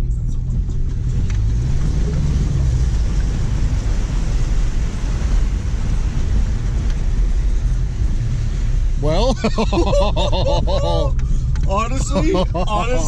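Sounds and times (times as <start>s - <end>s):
car engine running: 0.0s - 13.0s
water rushing and splashing: 0.8s - 13.0s.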